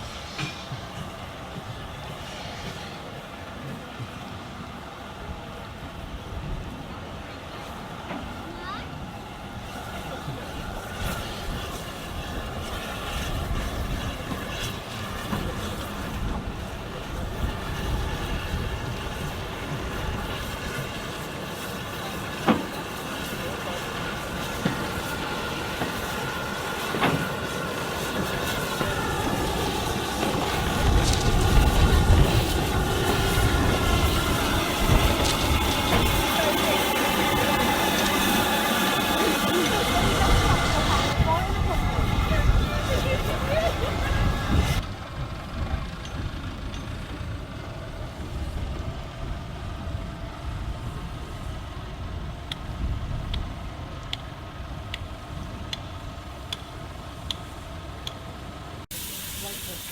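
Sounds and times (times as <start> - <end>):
railway engine rumbling: 0.0 - 59.9
train running: 0.0 - 59.9.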